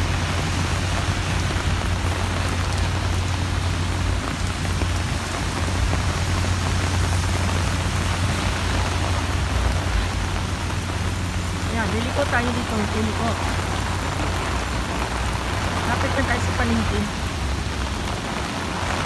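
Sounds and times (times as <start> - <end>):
heavy rain on pavement: 0.0 - 19.0.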